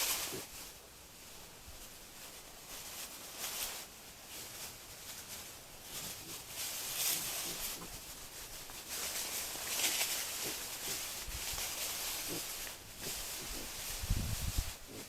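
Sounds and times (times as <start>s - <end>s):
boar rustling through leaves: 0.0s - 15.0s.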